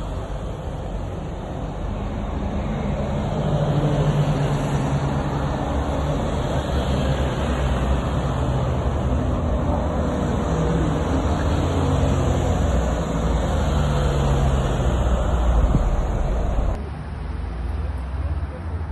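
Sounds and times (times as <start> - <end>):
road vehicles passing: 0.0 - 18.9.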